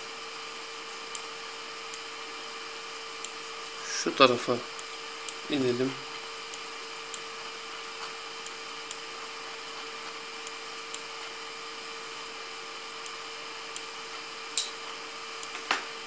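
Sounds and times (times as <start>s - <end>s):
electrical hum and hiss: 0.0s - 16.0s.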